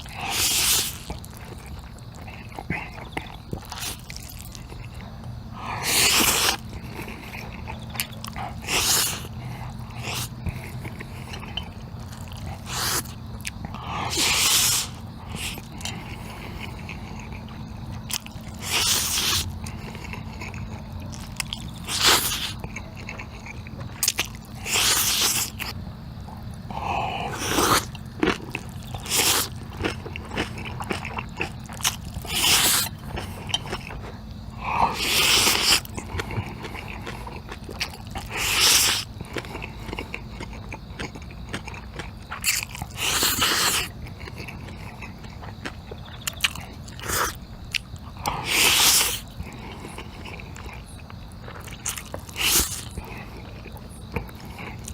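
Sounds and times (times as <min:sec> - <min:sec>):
noodles slurped and chewed: 0:00.0 - 0:54.9.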